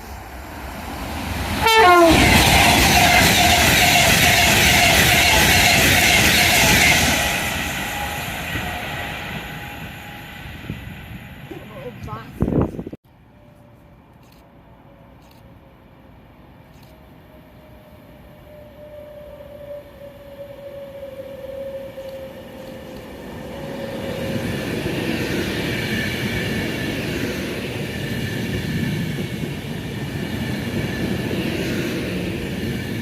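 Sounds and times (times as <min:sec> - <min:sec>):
train rumbling past on rails: 0:00.0 - 0:33.0.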